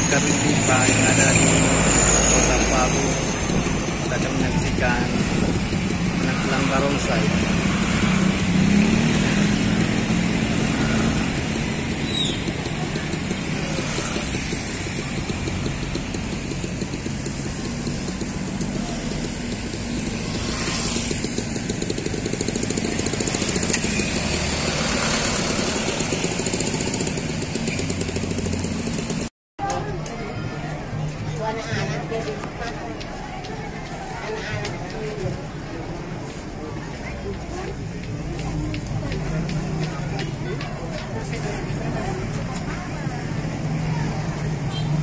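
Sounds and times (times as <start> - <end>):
cars and motorcycles passing: 0.0 - 45.0
tyres on tarmac: 0.0 - 45.0.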